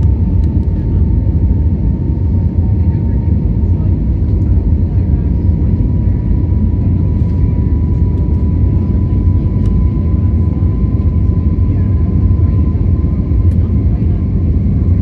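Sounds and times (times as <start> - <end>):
jet engines and airflow rumble: 0.0 - 15.0.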